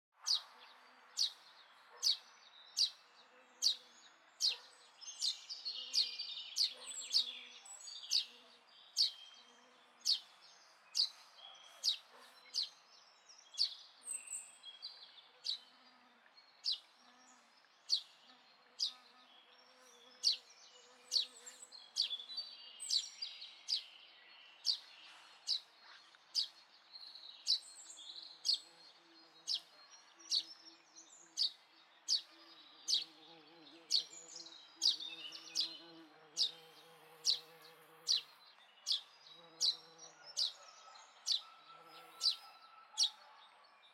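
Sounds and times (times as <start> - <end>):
birds chirping: 0.2 - 43.9.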